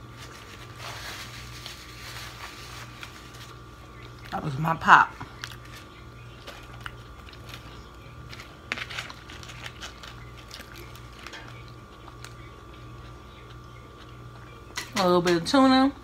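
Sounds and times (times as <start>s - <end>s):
quiet chewing and crunching: 0.0s - 15.0s
faint steady hum: 0.0s - 16.0s.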